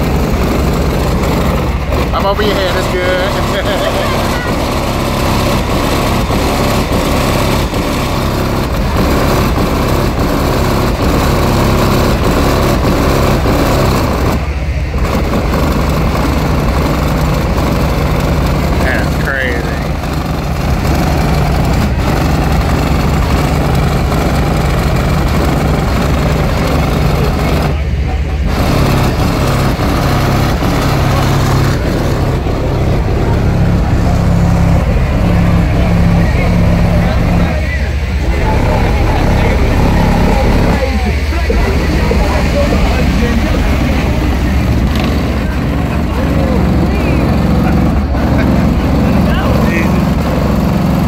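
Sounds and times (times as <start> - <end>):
harsh buzz: 0.0 - 51.0
loud car audio bass rumble: 0.0 - 51.0.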